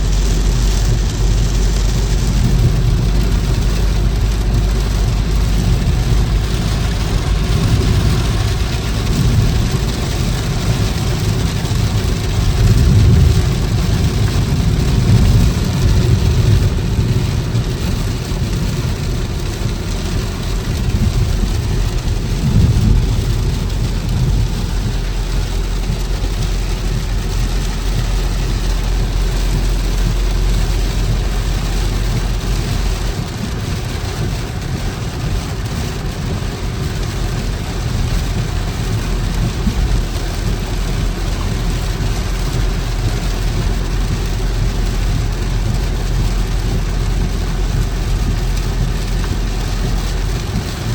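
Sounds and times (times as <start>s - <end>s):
car engine and road rumble: 0.0s - 50.9s
rain hissing: 0.0s - 50.9s.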